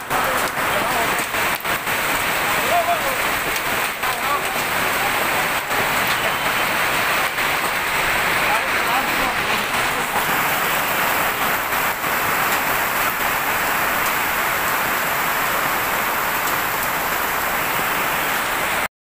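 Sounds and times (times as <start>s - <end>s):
heavy rain on pavement: 0.0s - 18.9s.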